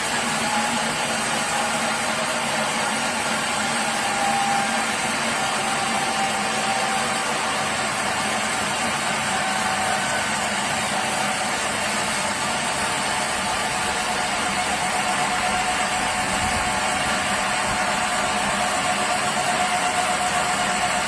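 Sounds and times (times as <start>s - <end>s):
sawmill machinery hum: 0.0s - 21.0s
sawmill machinery whine: 0.0s - 21.0s.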